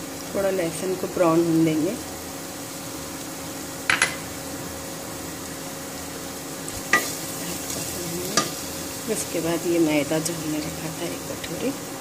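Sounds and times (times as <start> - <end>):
garlic sizzling in a pot: 0.0 - 12.0.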